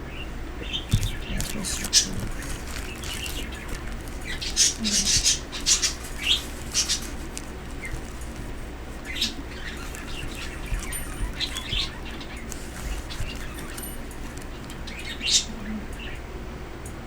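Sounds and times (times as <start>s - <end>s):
birds chirping: 0.0s - 16.3s.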